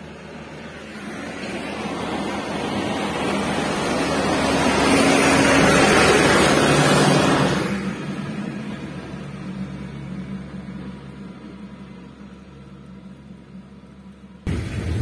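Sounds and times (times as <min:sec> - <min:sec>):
car road noise on wet road: 0:00.0 - 0:15.0
low engine hum: 0:00.0 - 0:15.0.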